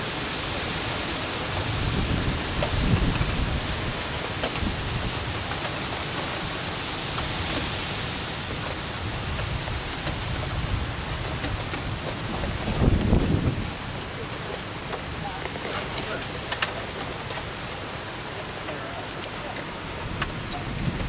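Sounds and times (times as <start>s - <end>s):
steady rain hiss: 0.0s - 21.0s
raindrop ticks: 1.4s - 7.7s, 8.4s - 21.0s.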